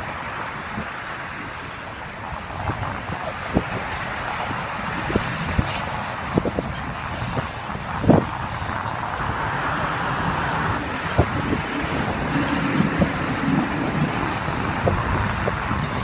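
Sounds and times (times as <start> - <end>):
motor vehicle running: 0.7 - 16.0.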